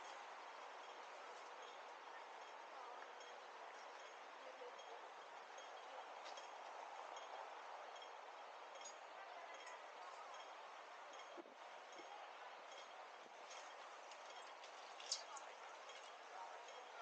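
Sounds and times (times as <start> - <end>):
faint street hubbub: 0.0 - 17.0.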